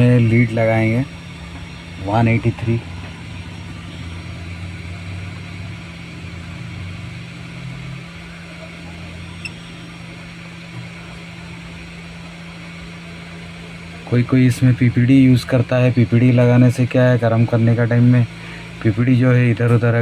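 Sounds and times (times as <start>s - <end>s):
fan noise: 0.0s - 20.0s
low electrical hum: 0.0s - 20.0s.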